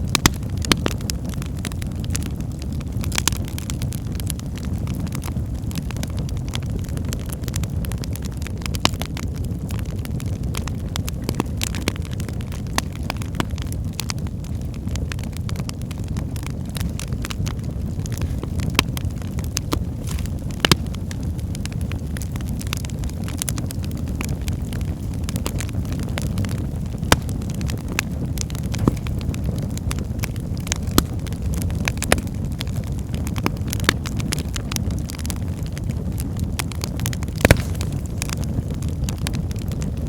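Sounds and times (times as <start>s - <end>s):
logs popping: 0.0s - 3.7s, 8.8s - 40.0s
fire rumbling and crackling: 0.0s - 40.0s.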